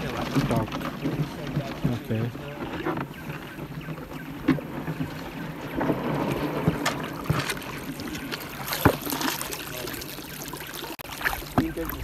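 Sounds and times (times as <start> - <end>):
water splashing around canoe: 0.0 - 12.0.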